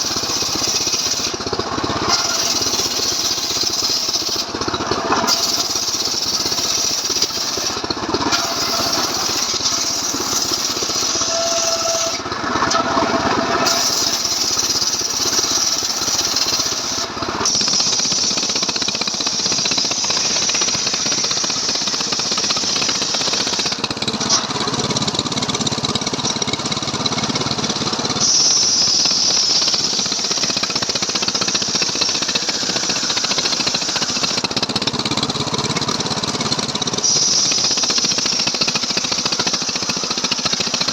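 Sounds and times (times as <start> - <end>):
chainsaw cutting wood: 0.0 - 25.0, 27.4 - 40.9.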